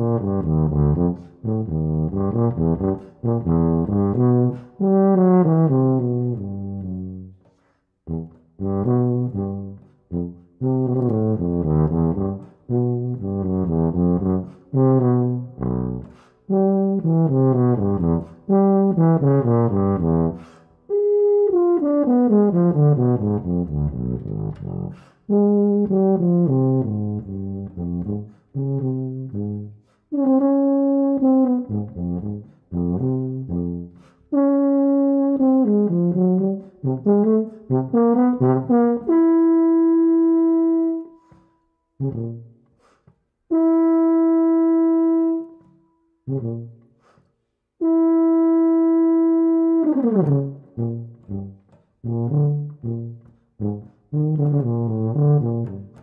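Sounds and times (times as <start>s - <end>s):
low brass instrument playing tango: 0.0s - 7.4s, 8.0s - 42.7s, 43.4s - 47.2s, 47.8s - 56.0s.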